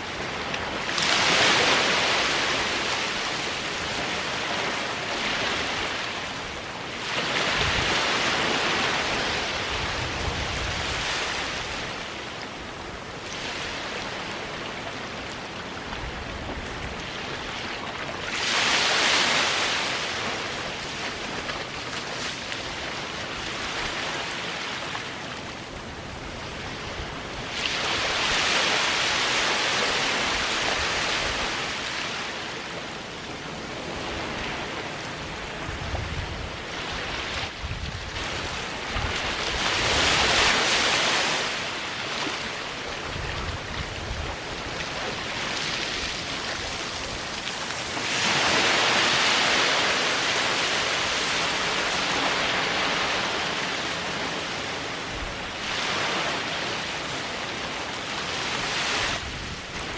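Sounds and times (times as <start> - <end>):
waves washing onto sandy beach: 0.0 - 59.9.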